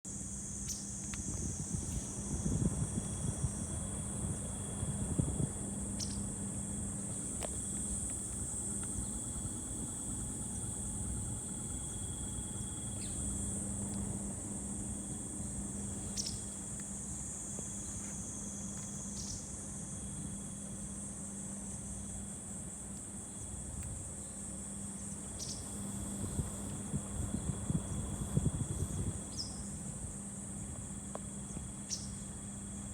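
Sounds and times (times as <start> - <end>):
air conditioner unit humming: 0.1 - 32.9
insects trilling: 0.1 - 32.9.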